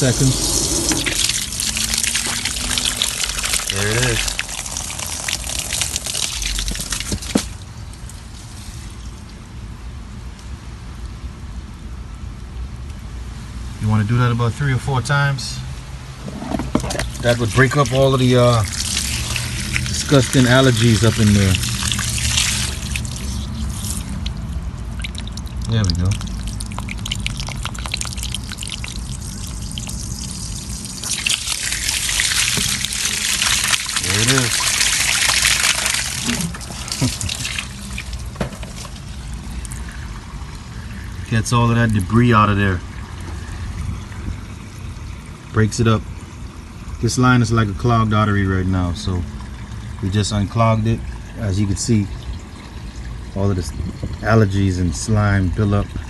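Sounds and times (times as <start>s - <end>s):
water splashing from a drain line: 0.0s - 9.7s, 16.1s - 56.0s.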